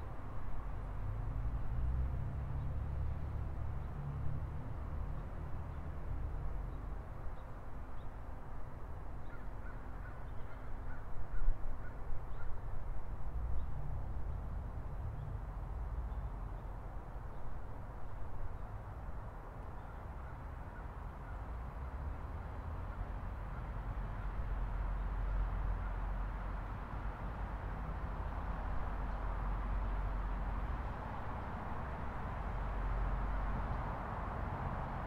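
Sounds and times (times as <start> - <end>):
low rumble of city traffic: 0.0 - 35.0.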